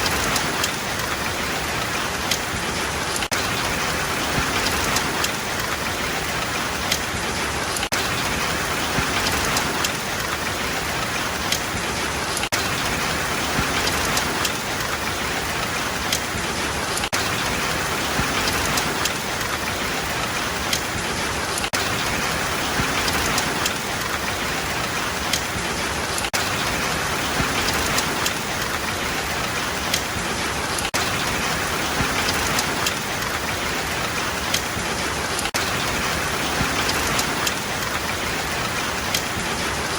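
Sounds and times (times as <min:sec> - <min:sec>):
rain drops hitting surfaces: 0:00.0 - 0:39.9
steady rain falling: 0:00.0 - 0:39.9.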